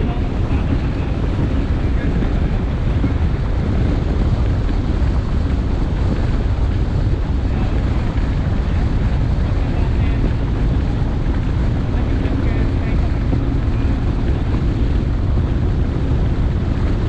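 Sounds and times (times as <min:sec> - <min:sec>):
water rushing past hull: 0:00.0 - 0:17.0
wind on microphone: 0:00.0 - 0:17.0.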